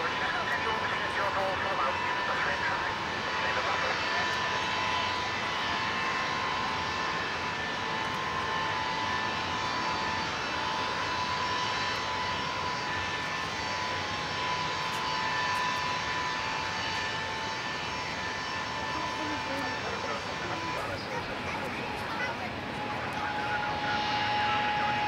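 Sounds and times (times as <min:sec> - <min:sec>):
jet airliner taxiing: 0:00.0 - 0:25.0.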